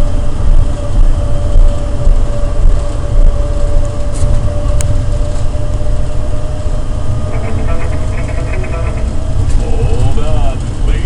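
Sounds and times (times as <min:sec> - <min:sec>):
steady whine: 0:00.0 - 0:11.0
train rumbling in tunnel: 0:00.0 - 0:11.0.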